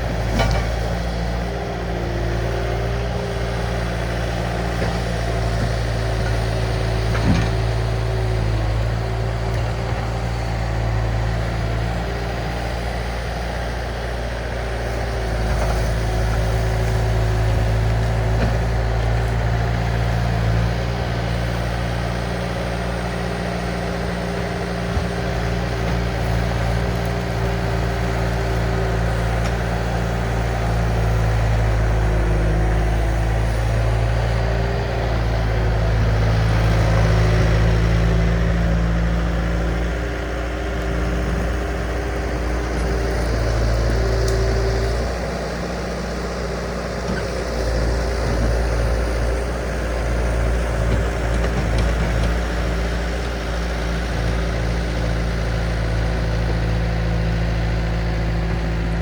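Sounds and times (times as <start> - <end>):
diesel engine of earthmoving machine: 0.0 - 59.0.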